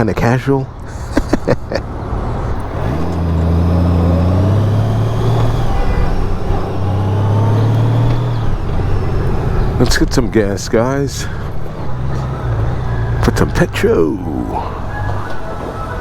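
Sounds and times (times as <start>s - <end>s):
wind and road noise: 0.0s - 16.0s
motorcycle engine pulling: 1.9s - 16.0s.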